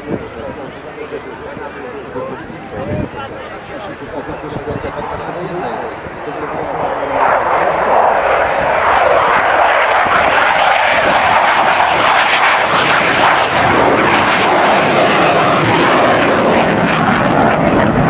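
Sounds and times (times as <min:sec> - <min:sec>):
airplane engine flying over: 0:00.0 - 0:18.0.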